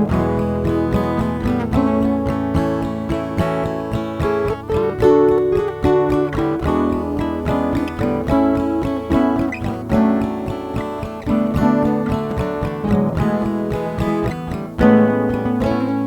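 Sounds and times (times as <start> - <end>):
upbeat guitar instrumental: 0.0 - 16.0.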